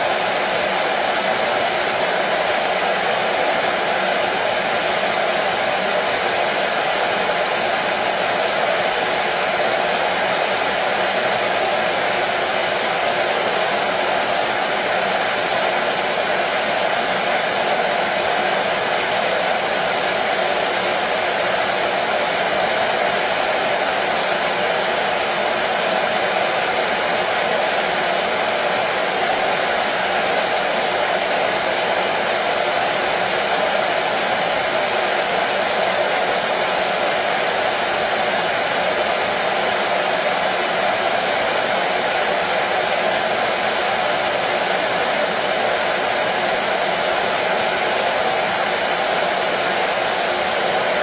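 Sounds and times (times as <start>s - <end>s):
washing machine running: 0.0s - 51.0s.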